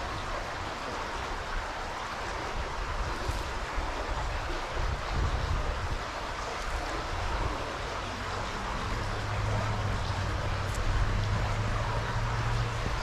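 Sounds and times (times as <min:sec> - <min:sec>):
low traffic rumble: 0:00.0 - 0:13.0
stream water rushing: 0:00.0 - 0:13.0.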